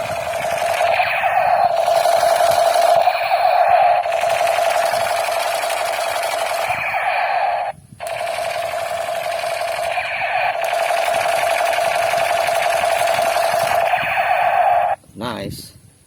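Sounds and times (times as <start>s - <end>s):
toy gun buzzing and rattling: 0.0s - 15.0s.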